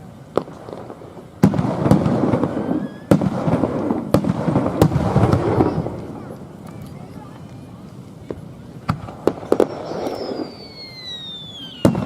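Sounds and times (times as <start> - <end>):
firework booms: 0.0 - 12.0
firework crackling: 0.0 - 12.0.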